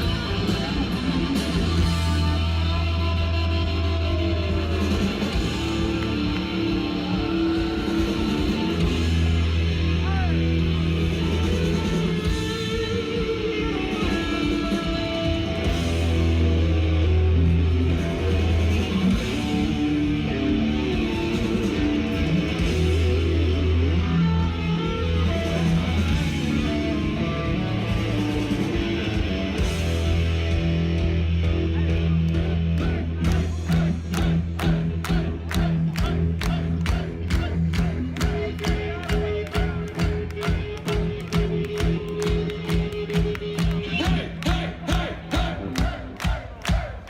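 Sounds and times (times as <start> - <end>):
distorted electric guitar: 0.0 - 46.2
bass: 0.0 - 47.0
drums: 0.0 - 47.0.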